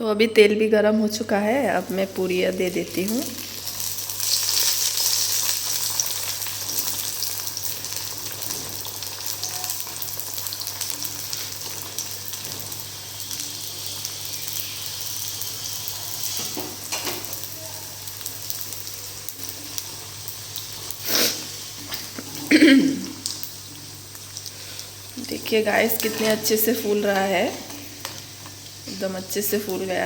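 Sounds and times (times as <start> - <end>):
food sizzling in hot oil: 1.1 - 30.0.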